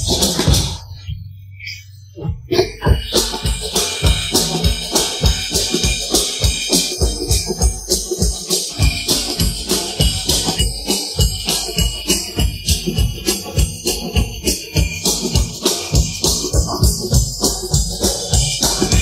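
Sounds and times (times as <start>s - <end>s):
drum kit rock beat: 0.0s - 1.0s, 2.4s - 19.0s.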